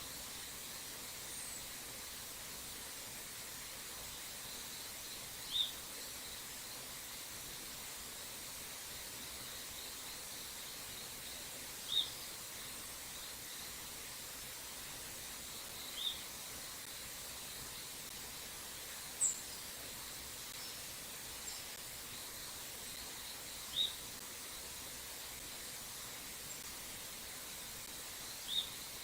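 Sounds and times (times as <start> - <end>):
small stream hissing: 0.0 - 29.0.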